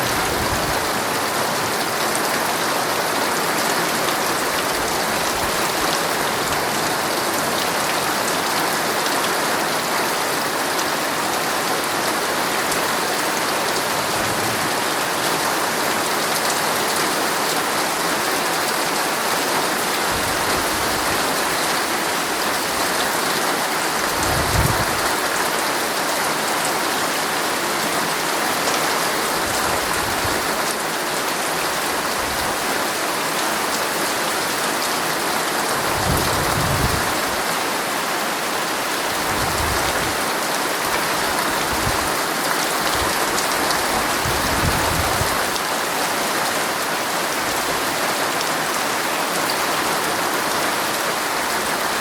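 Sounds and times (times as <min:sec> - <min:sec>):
heavy rain on tent fabric: 0:00.0 - 0:52.0.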